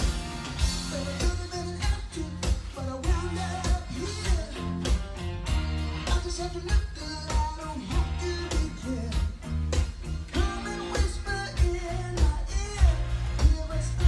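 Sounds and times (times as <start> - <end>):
pop-rock song with vocals: 0.0 - 14.0.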